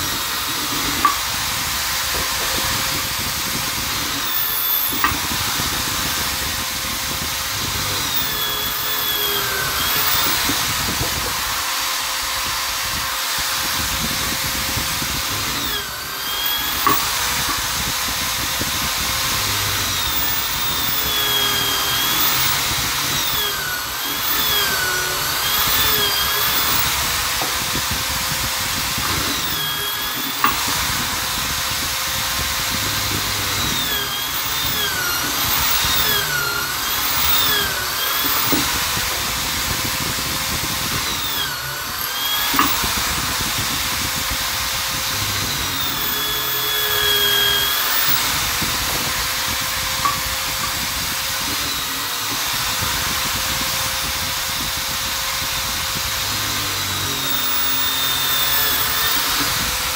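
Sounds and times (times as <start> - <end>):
drill motor whining: 0.0 - 59.9.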